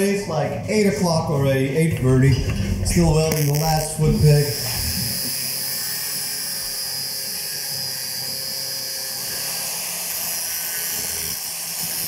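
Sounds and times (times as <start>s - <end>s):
angle grinder grinding metal: 1.9s - 12.0s.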